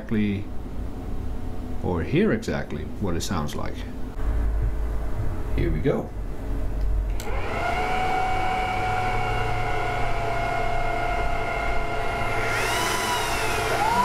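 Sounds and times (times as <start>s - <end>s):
cooling fans whining: 0.0s - 14.0s.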